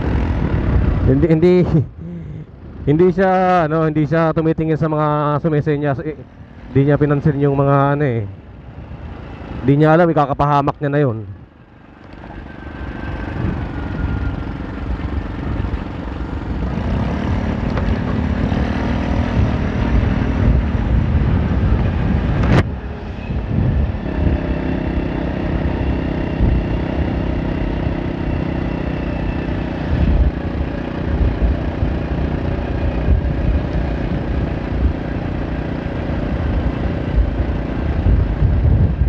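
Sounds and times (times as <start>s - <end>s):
road and wind rumble: 0.0s - 39.0s
scooter engine running: 6.2s - 9.8s, 11.4s - 39.0s.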